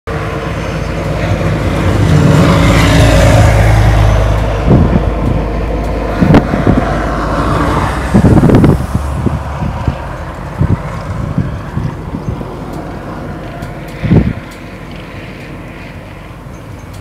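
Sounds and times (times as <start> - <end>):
bus engine driving past: 0.1 - 17.0
wind blowing over microphone: 0.1 - 17.0.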